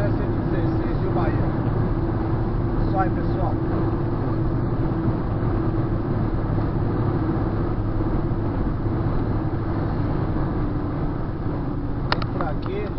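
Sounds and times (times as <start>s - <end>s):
car road noise: 0.0s - 12.9s.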